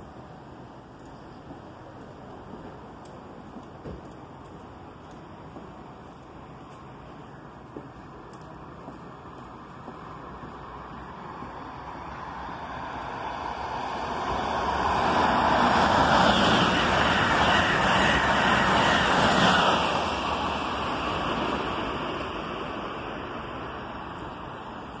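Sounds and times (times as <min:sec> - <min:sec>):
train passing at high speed: 0:00.0 - 0:25.0.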